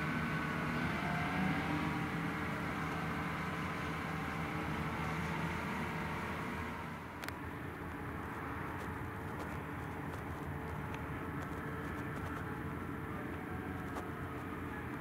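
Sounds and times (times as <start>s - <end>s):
tractor engines droning: 0.0s - 15.0s.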